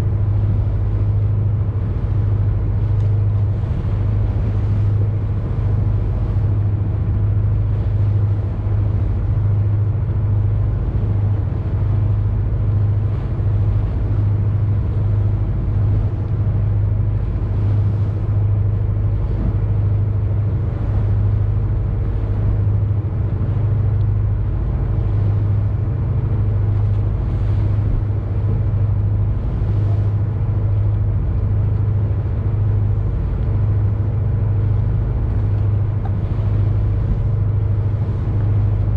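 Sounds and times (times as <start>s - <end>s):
boat engine droning: 0.0s - 38.9s
water wash: 0.0s - 38.9s.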